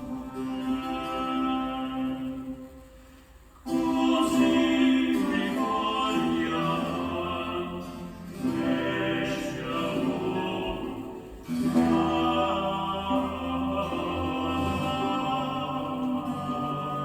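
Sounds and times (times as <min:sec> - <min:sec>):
music with singing over speakers: 0:00.0 - 0:17.0.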